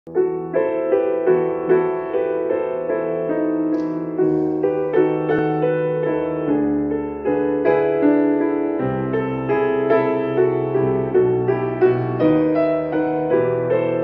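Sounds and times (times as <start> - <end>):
grand piano playing soft chords: 0.1 - 14.0.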